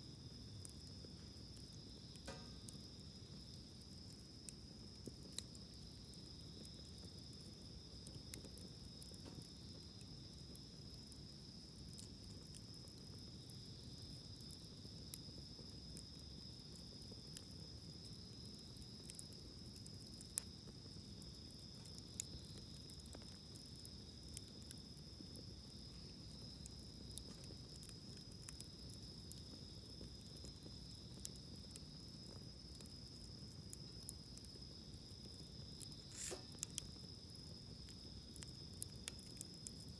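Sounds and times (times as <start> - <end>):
campfire crackling and popping: 0.0 - 39.9
insects droning: 0.0 - 39.9.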